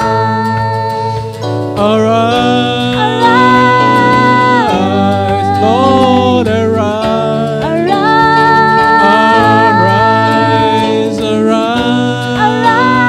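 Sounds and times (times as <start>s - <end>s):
acoustic guitar: 0.0s - 13.0s
keyboard: 0.0s - 13.0s
man singing: 0.0s - 13.0s
woman singing: 0.0s - 13.0s.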